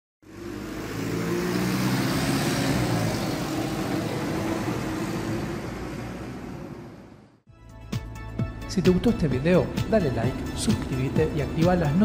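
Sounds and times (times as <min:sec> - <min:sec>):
bus diesel engine driving off: 0:00.2 - 0:07.4, 0:09.2 - 0:12.0.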